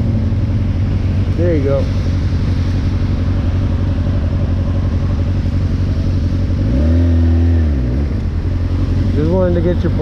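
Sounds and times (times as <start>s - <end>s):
motorcycle engine running: 0.0s - 10.0s
road noise: 0.0s - 10.0s
wind: 0.0s - 10.0s.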